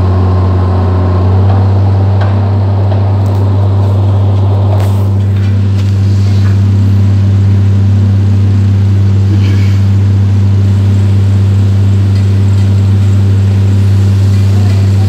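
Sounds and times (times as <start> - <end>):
excavator diesel engine humming: 0.0 - 15.0.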